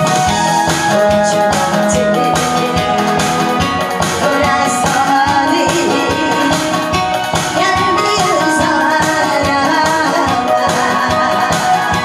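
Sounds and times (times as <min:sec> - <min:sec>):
amplified backing music with beat: 0:00.0 - 0:12.0
woman singing into microphone: 0:00.0 - 0:12.0.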